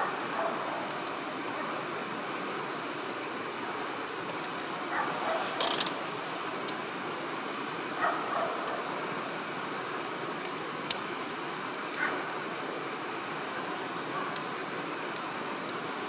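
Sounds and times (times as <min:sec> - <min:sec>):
fire crackling: 0:00.0 - 0:16.0
wood fire hissing: 0:00.0 - 0:16.0.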